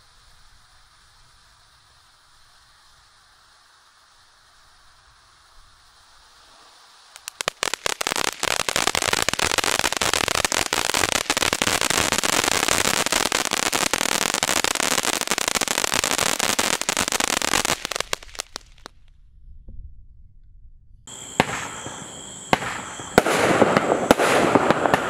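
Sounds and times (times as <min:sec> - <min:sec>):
firework crackling and popping: 0:00.0 - 0:19.1, 0:21.1 - 0:25.0.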